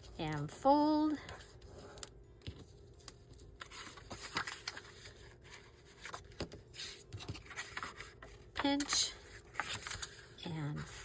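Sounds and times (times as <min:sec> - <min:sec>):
paper rustling and creasing: 0:01.3 - 0:11.0.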